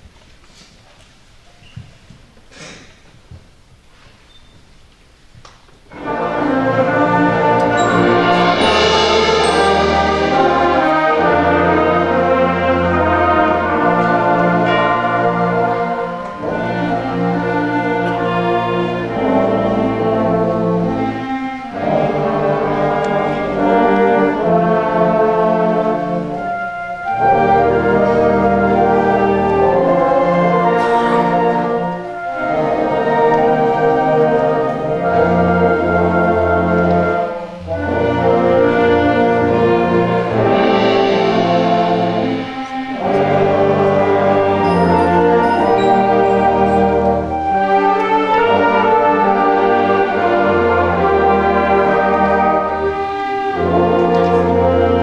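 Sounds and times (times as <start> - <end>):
concert band playing chords: 5.9 - 55.0.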